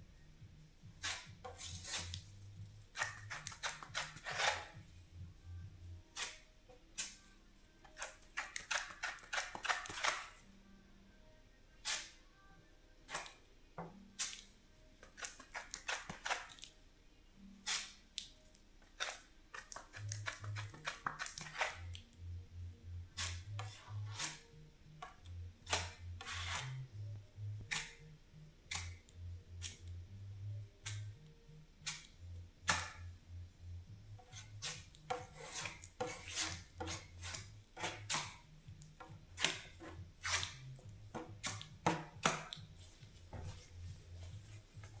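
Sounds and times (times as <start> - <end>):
quiet background music with bass line: 0.0 - 45.0.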